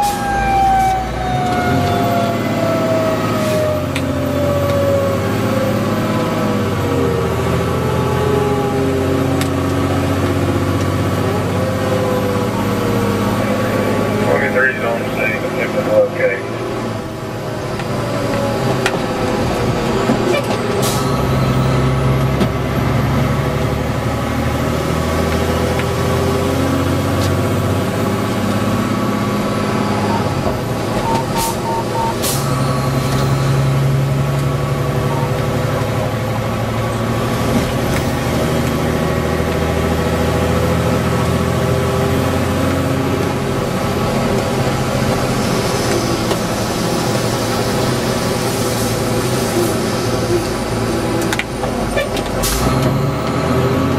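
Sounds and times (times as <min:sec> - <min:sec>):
diesel engine: 0:00.0 - 0:53.9
road noise: 0:00.0 - 0:53.9.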